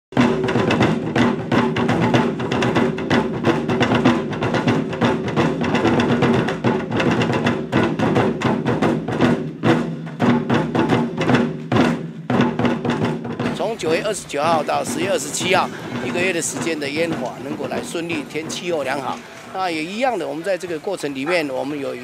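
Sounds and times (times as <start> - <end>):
barrel drums struck with sticks: 0.1 - 20.4.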